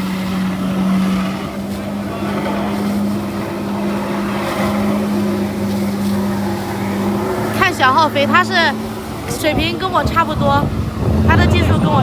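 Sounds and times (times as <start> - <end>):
jet ski engine humming: 0.0 - 12.0.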